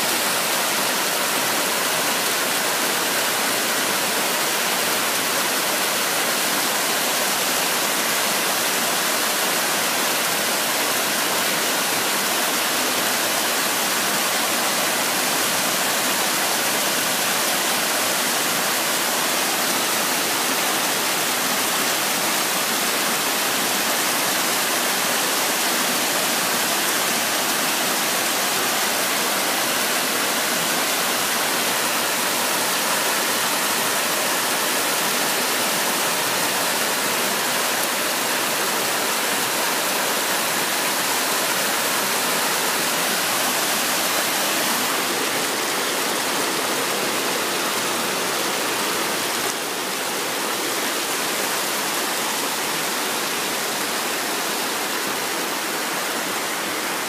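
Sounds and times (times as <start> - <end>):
waterfall over rock ledges: 0.0 - 57.0.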